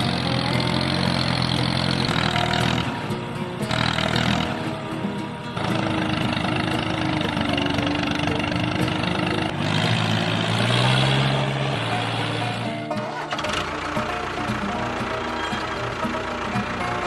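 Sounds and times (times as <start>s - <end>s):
small motor running: 0.0s - 17.0s.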